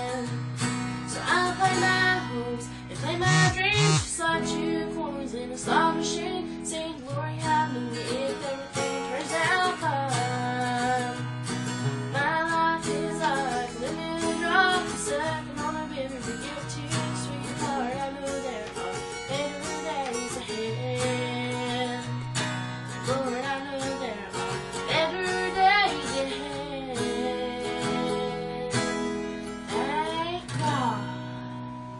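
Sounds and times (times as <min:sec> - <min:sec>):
strummed acoustic guitar: 0:00.0 - 0:31.9
woman singing country song: 0:00.0 - 0:31.9.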